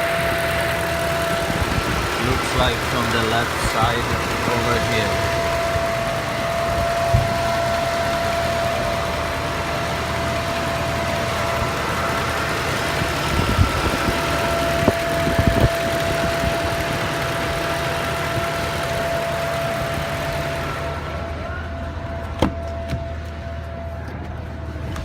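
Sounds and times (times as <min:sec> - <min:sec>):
car engine idling: 0:00.0 - 0:25.0
high-pitched whine: 0:00.0 - 0:25.0.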